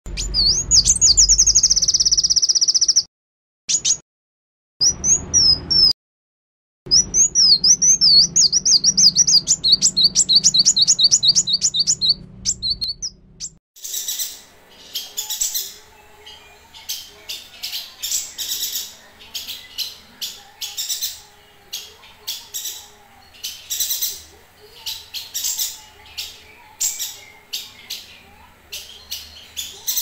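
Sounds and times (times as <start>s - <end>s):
bird chirping: 0.1s - 3.1s, 3.7s - 4.0s, 4.8s - 6.0s, 6.9s - 30.0s.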